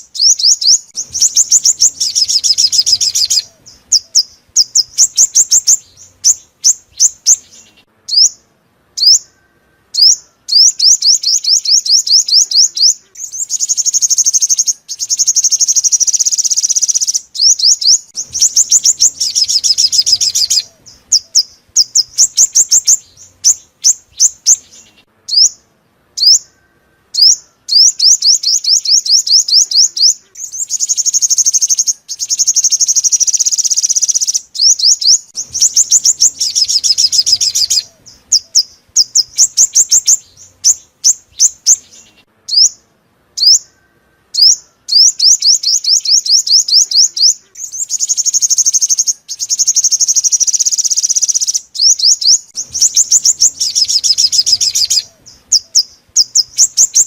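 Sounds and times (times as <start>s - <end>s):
bird chirping and trilling: 0.0s - 57.0s.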